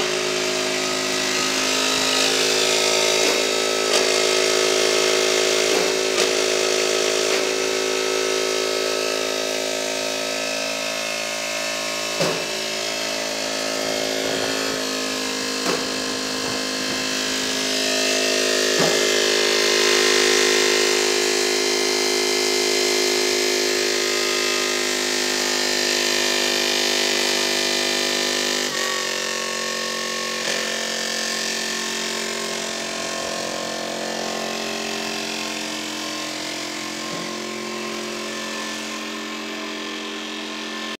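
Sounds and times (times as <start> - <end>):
concrete mixer engine running: 0.0 - 41.0.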